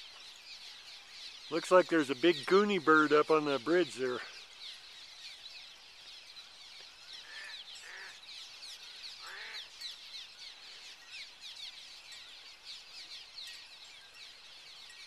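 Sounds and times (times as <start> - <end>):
swallows chirping: 0.0 - 15.0.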